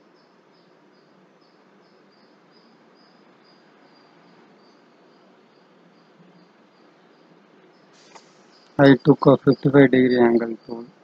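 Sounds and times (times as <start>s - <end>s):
faint room hiss: 0.0s - 11.0s
insect chirping: 0.0s - 11.0s.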